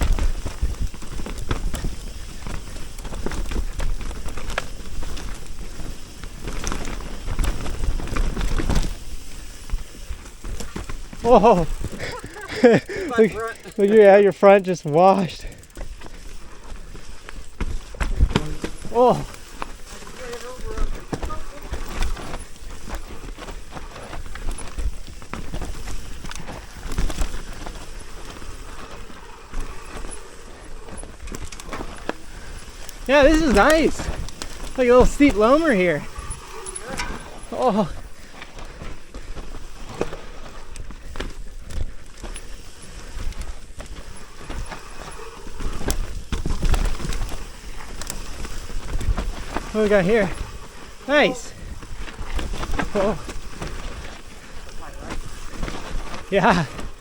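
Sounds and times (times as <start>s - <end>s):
bike clicking and rattling: 0.0s - 57.0s
bike tyres rumbling over dirt: 0.0s - 57.0s.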